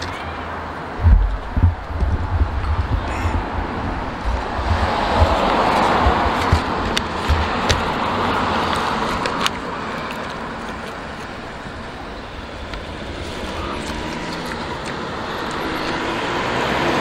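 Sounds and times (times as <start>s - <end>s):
car passing: 0.0s - 17.0s
road traffic: 0.0s - 17.0s.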